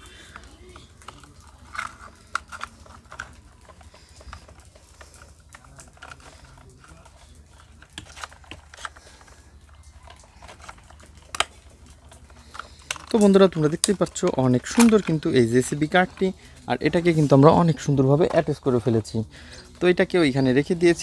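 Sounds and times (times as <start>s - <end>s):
plastic toy parts clicking: 0.0s - 21.0s.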